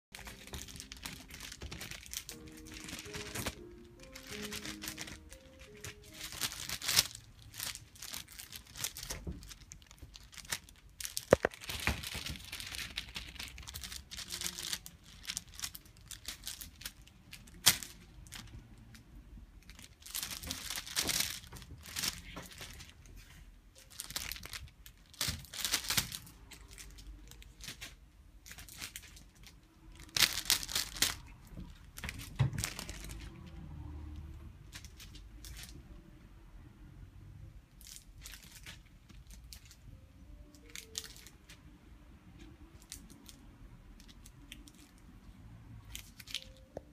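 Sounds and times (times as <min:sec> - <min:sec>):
rustling and crinkling: 0:00.1 - 0:36.0, 0:37.7 - 0:41.7, 0:44.0 - 0:46.9.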